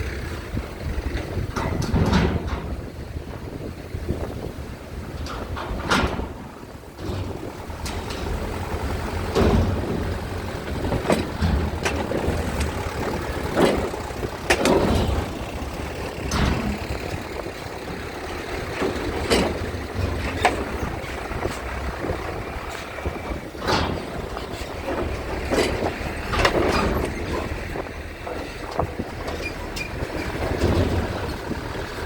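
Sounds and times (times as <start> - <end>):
heavy engine rumble: 0.0 - 32.0
sharp knocks and clanks: 1.0 - 4.4, 5.2 - 32.0.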